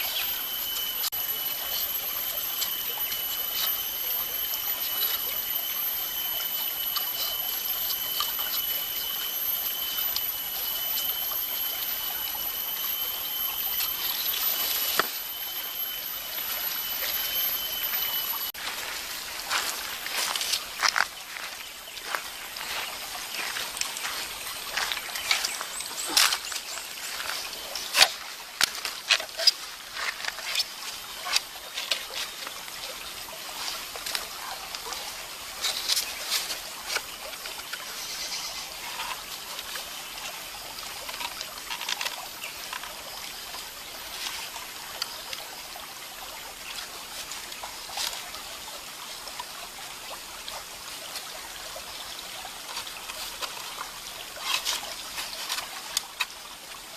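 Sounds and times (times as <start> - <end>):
stream trickling over stones: 0.0 - 56.9.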